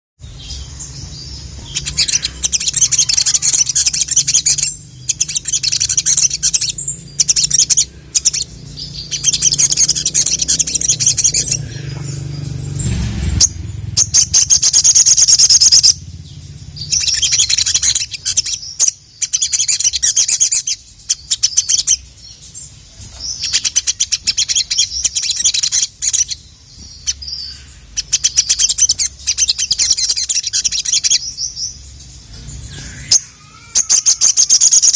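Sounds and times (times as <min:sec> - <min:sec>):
sunbird twittering chirps: 0:00.2 - 0:34.9.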